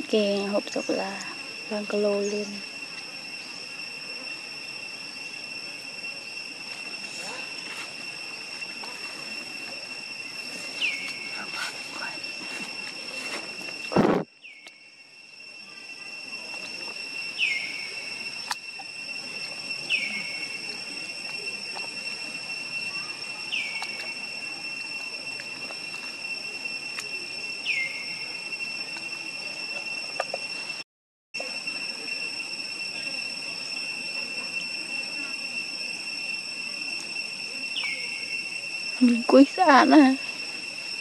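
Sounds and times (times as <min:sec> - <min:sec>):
high-pitched insect drone: 0:00.0 - 0:41.0.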